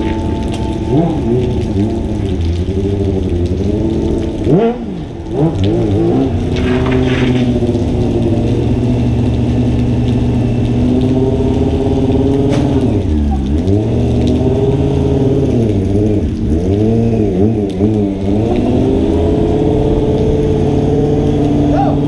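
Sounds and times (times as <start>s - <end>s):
vehicle engine accelerating and cruising: 0.0s - 22.0s.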